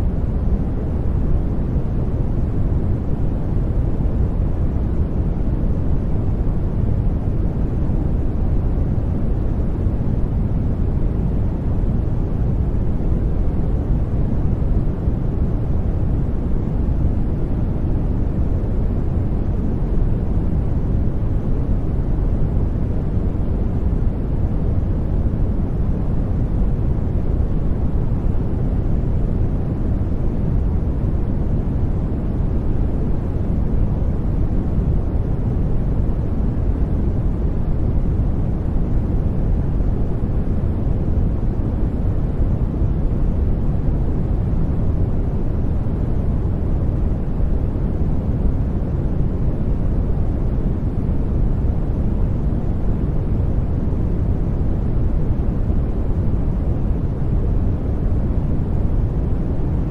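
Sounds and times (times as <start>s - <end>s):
deep white noise hiss: 0.0s - 59.9s.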